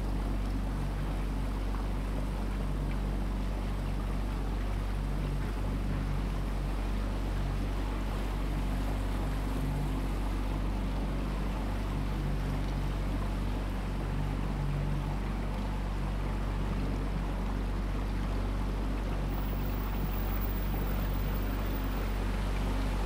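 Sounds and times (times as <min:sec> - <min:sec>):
boat engine humming: 0:00.0 - 0:23.0.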